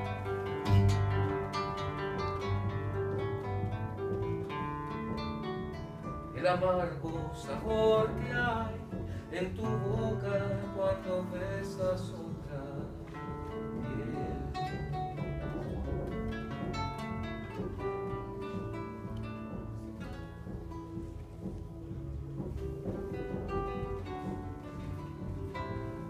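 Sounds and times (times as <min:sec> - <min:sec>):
bass and chords: 0:00.0 - 0:26.0
plucked string melody: 0:00.0 - 0:26.0.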